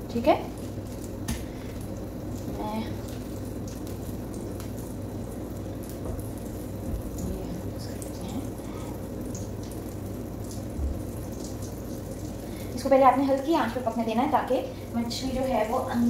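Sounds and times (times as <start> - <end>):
fish sizzling in oil: 0.4 - 15.9.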